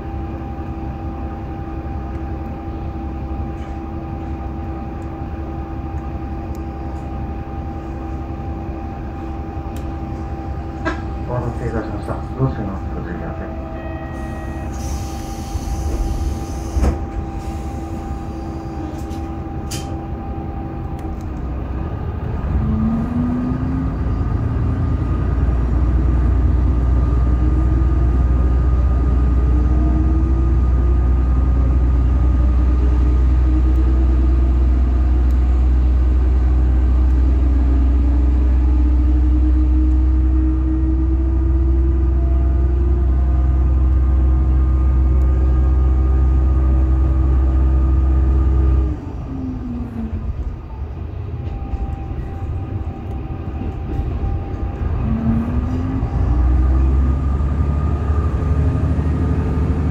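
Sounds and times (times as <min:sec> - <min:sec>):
diesel railcar engine: 0:00.0 - 0:59.9.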